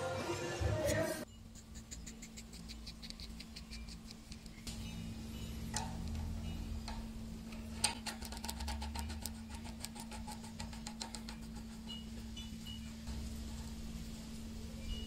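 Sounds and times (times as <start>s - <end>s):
low hum: 1.2s - 15.0s.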